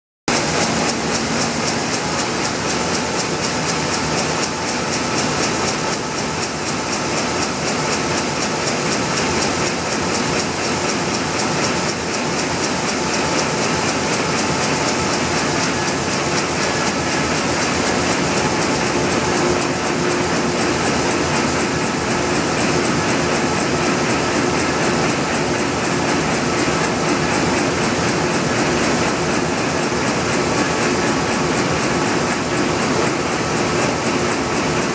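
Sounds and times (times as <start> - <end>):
printing press clattering: 0.3 - 34.9.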